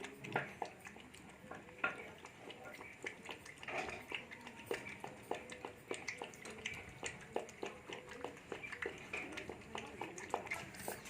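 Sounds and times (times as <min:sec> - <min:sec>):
puppy clicking and tapping: 0:00.0 - 0:11.0.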